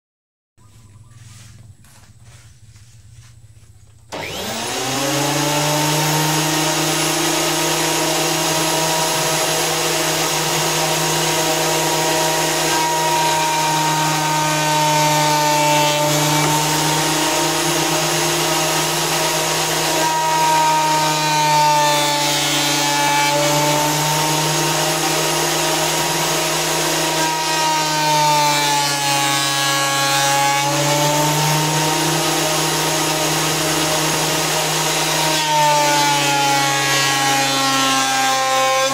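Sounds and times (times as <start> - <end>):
planer blades shaving wood: 0.7 - 38.9
electric planer motor whine: 4.1 - 38.9.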